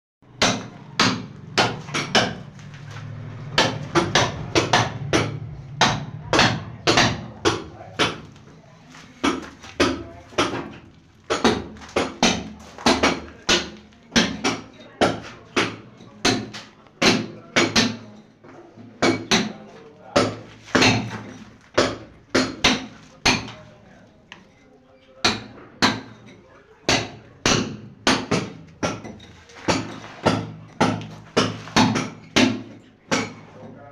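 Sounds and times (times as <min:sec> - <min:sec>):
hammer striking: 0:00.3 - 0:02.6, 0:03.5 - 0:08.4, 0:09.2 - 0:18.1, 0:19.0 - 0:23.6, 0:26.9 - 0:33.4.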